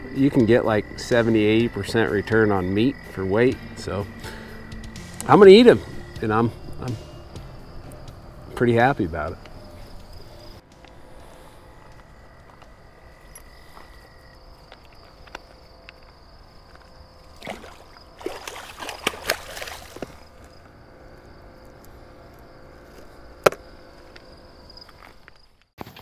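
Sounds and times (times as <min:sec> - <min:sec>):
crickets chirring: 0:00.0 - 0:25.7.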